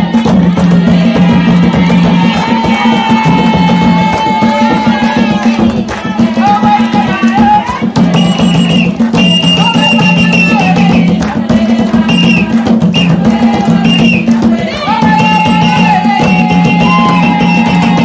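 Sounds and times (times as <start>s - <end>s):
traditional dance music: 0.0s - 18.0s.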